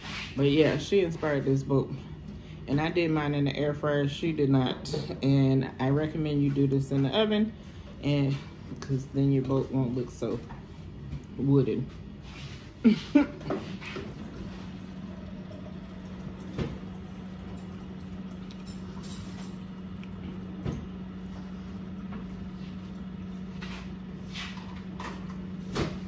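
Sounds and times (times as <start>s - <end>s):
water machine humming: 0.0s - 26.0s.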